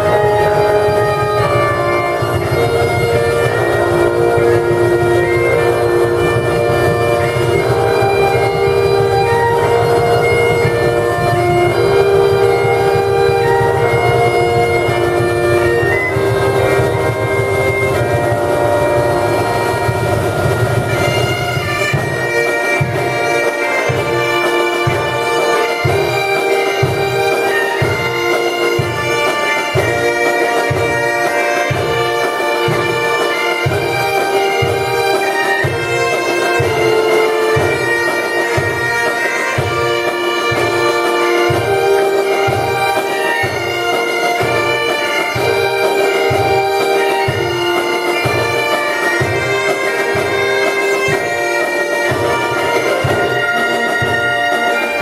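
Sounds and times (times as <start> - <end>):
bagpipe playing melody over drones: 0.0 - 55.0.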